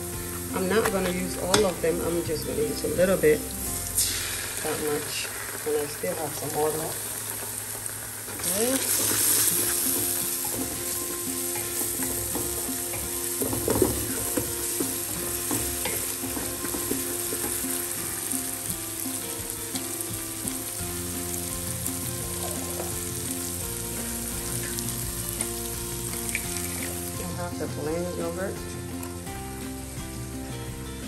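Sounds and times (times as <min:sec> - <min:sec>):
food sizzling in a pot: 0:00.0 - 0:31.0.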